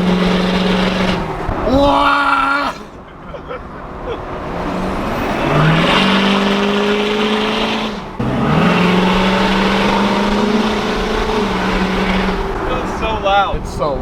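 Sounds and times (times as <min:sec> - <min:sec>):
truck exhaust at full throttle: 0:00.0 - 0:13.7.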